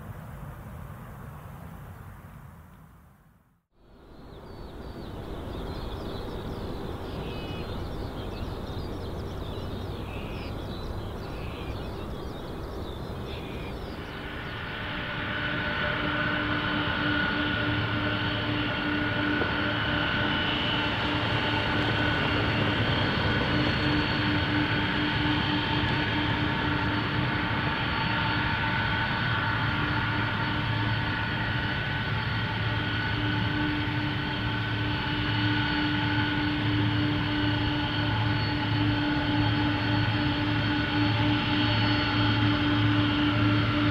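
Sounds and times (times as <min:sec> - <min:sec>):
jet engine whine: 0:03.7 - 0:43.9
jet engines rumbling: 0:03.9 - 0:43.9.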